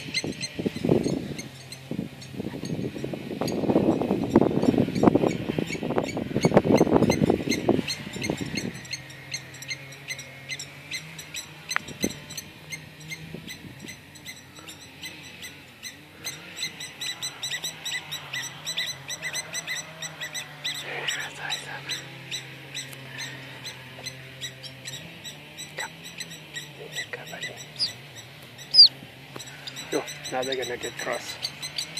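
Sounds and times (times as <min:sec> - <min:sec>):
lapwings alarm calling: 0:02.9 - 0:31.9.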